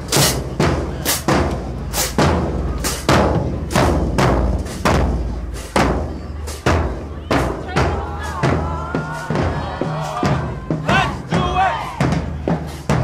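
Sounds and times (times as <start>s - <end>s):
marching drumline cadence: 0.0s - 13.0s.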